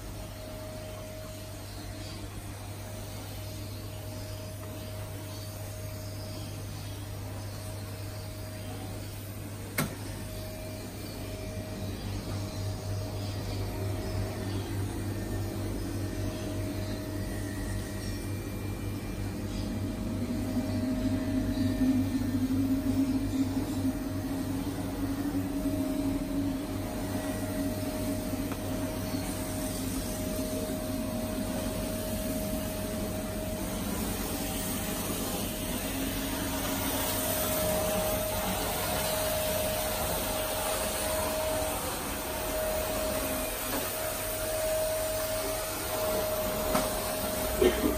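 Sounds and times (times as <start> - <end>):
low machine hum: 0.0 - 47.9
machine hiss with high whine: 0.0 - 47.9.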